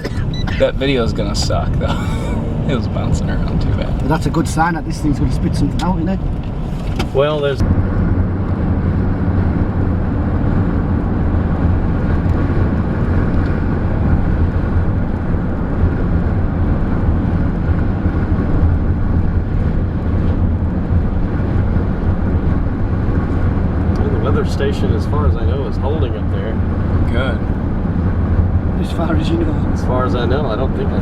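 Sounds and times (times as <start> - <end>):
car road and engine drone: 0.0 - 31.0.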